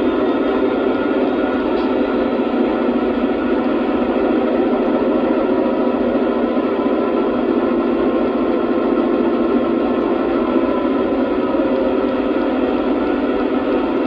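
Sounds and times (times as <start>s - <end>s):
model train diesel engine sound: 0.0s - 14.0s.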